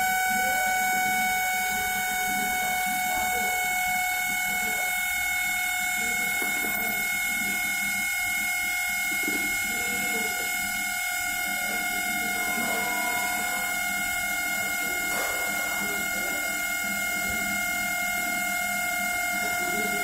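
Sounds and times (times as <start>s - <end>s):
microwave fan motor whining hum: 0.0s - 20.0s.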